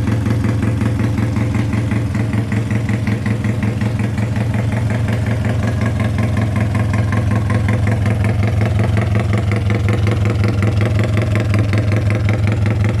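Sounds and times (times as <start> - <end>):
small motorcycle engine idling: 0.0 - 13.0.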